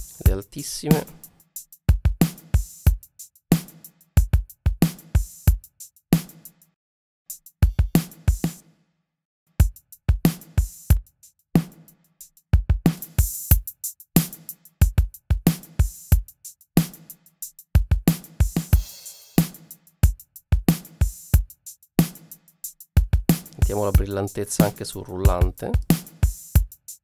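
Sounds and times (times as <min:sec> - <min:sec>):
drum kit loop: 0:00.0 - 0:06.5, 0:07.3 - 0:08.6, 0:09.6 - 0:27.0.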